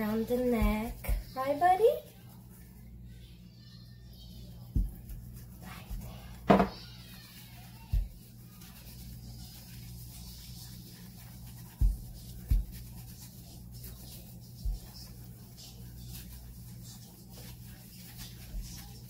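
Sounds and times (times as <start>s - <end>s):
scratchy rubbing of wet fur: 0.0s - 19.0s.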